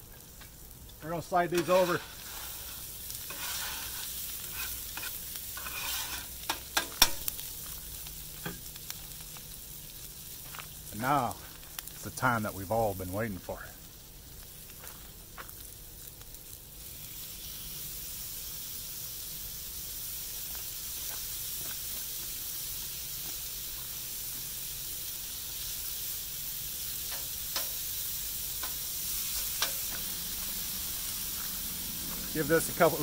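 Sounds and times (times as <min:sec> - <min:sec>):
beef sizzling on a griddle: 0:00.0 - 0:33.0.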